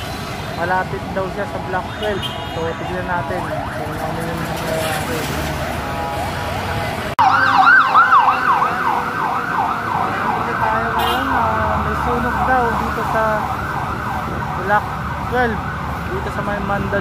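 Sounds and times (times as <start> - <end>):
fire truck siren yelping: 0.0 - 17.0
street traffic noise: 0.0 - 17.0.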